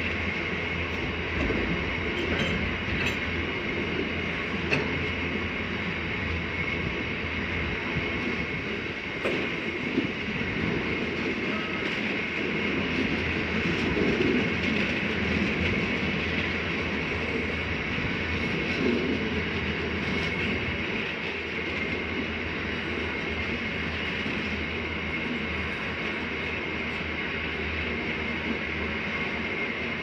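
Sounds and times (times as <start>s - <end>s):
train wheels clattering on rails: 0.0s - 30.0s.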